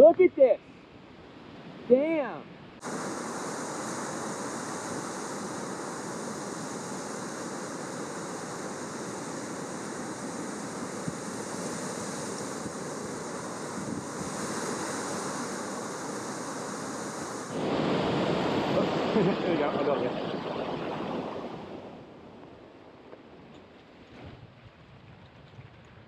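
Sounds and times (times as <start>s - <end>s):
wind rushing on microphone: 1.2s - 22.7s, 24.0s - 26.0s.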